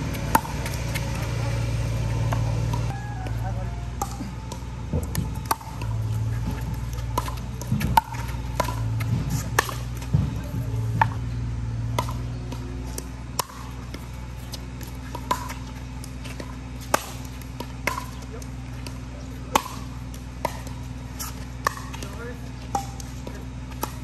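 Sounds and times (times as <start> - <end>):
ball bouncing on hard court: 0.0 - 3.0, 4.0 - 24.0
steady low hum: 0.0 - 24.0
paddles hitting plastic ball: 4.0 - 11.2, 11.9 - 24.0.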